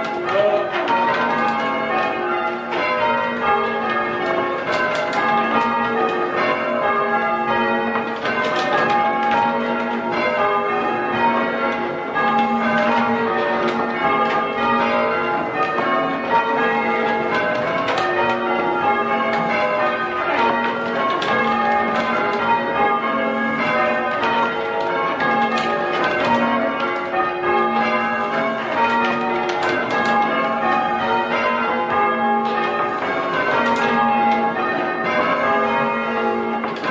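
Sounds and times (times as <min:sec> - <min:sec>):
church bells change ringing: 0:00.0 - 0:36.9.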